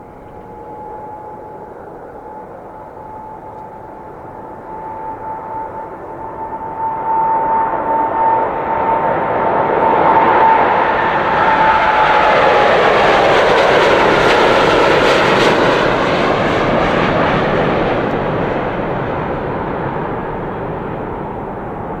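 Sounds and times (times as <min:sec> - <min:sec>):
jet engine roar: 0:00.0 - 0:22.0
jet engine whine: 0:00.0 - 0:22.0.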